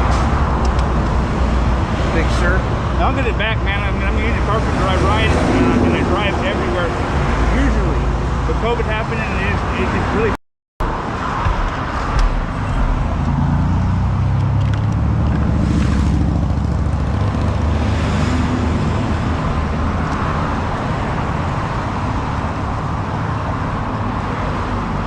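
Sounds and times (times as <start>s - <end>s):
traffic engine rumble: 0.0s - 25.0s
vehicles passing: 0.0s - 25.0s.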